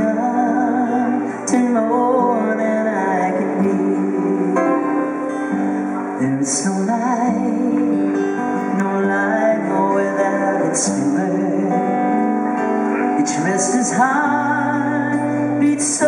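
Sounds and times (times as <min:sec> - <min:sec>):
acoustic guitars: 0:00.0 - 0:16.0
person singing: 0:00.0 - 0:16.0.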